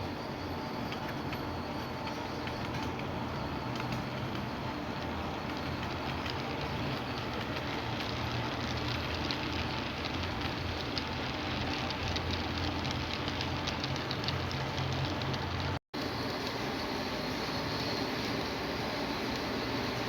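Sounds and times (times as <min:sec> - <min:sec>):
wheels clicking on rails: 0:00.0 - 0:20.0.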